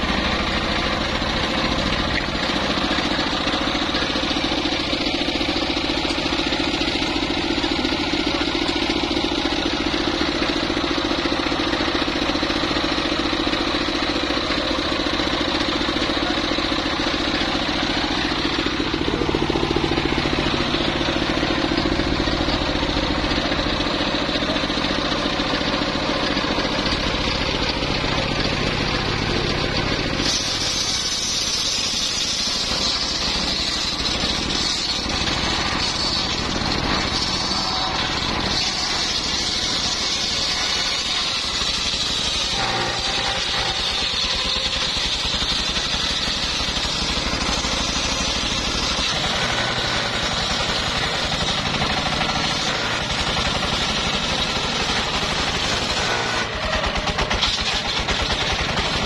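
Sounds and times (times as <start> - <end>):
saw bench engine running: 0.0 - 59.0
saw blade cutting log: 0.0 - 59.0.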